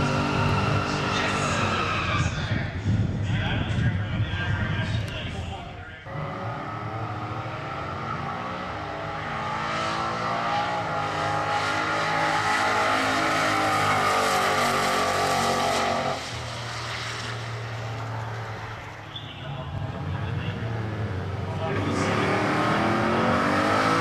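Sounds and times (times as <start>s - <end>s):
drag car engine at full throttle: 0.0s - 3.2s, 6.0s - 24.0s.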